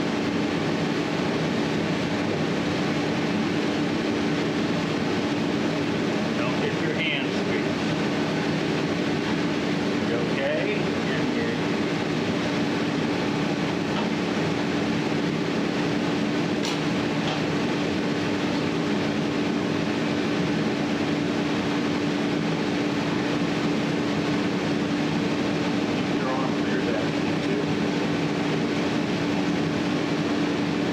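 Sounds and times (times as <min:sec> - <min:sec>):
steady mechanical hum: 0:00.0 - 0:30.9.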